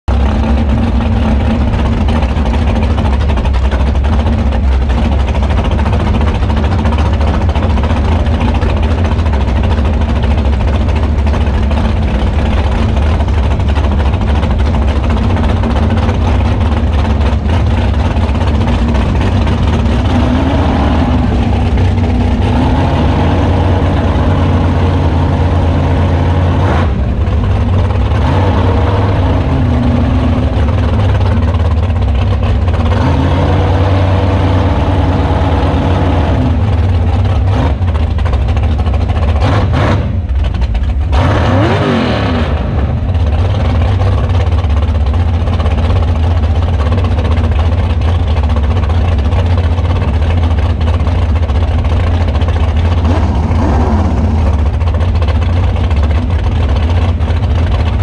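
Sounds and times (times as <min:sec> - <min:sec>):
swamp buggy engine running: 0:00.0 - 0:58.0.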